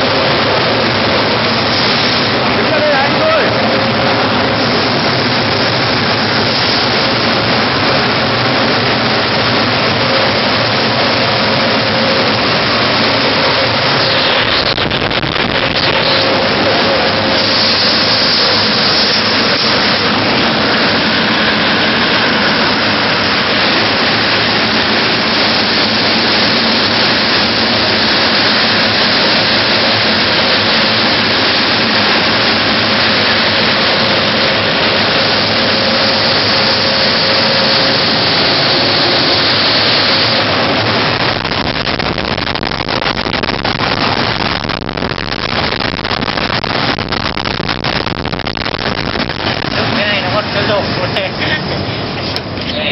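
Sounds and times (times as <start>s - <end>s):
blower rushing air: 0.0s - 52.9s.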